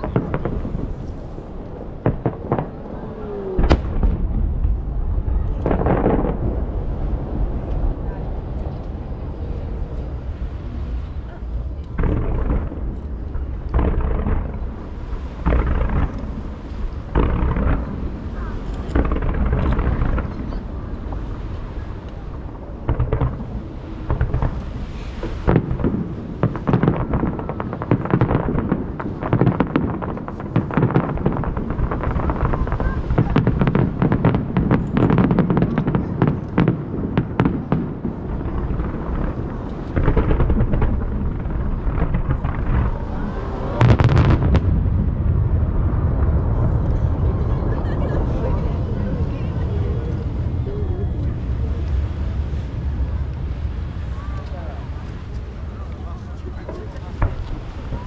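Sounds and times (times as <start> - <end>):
deep fireworks booms: 0.0 - 58.0
fireworks crackling: 0.0 - 58.0.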